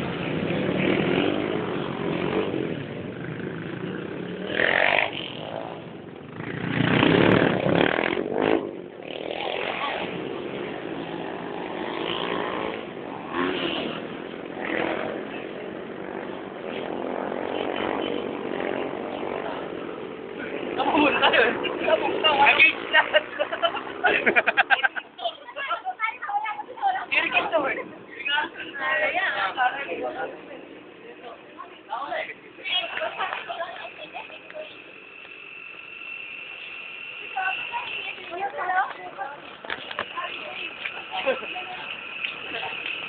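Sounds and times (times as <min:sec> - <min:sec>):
motorcycle engines passing: 0:00.0 - 0:43.0.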